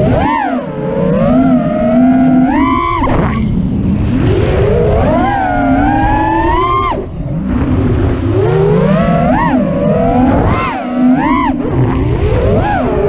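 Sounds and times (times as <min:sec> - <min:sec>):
drone motors whining: 0:00.0 - 0:13.0
wind rushing over microphone: 0:01.0 - 0:13.0.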